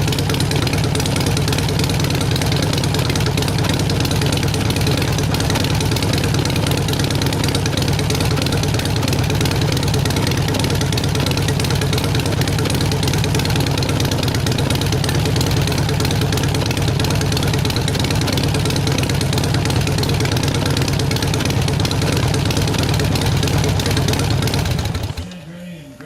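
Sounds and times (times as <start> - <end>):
motorcycle engine idling: 0.0 - 25.8.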